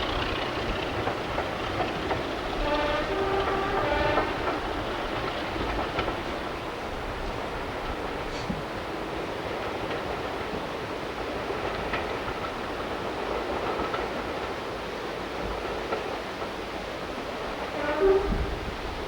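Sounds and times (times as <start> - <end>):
train running: 0.0 - 19.0.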